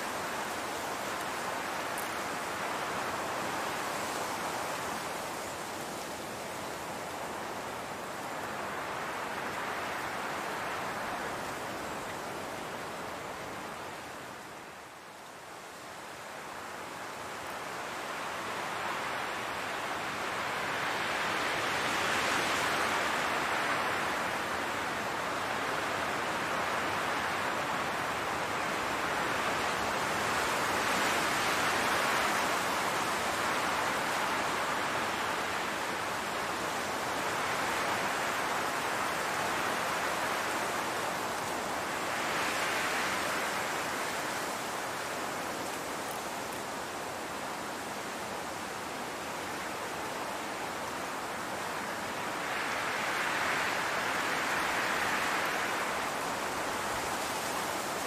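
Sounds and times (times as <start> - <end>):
wind gusting across grass: 0.0 - 58.0.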